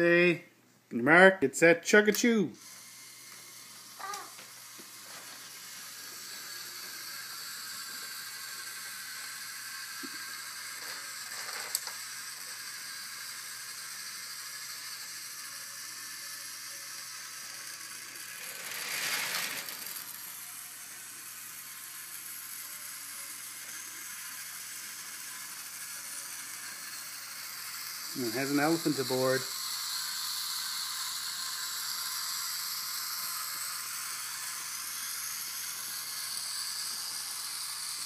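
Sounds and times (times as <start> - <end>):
toy train motor whirring: 2.0 - 38.0.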